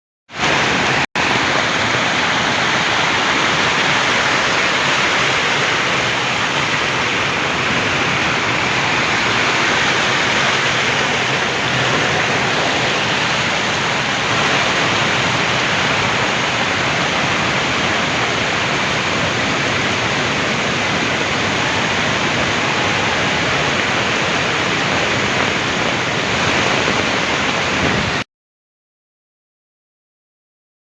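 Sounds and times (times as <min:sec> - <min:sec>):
heavy rain falling: 0:00.3 - 0:28.2.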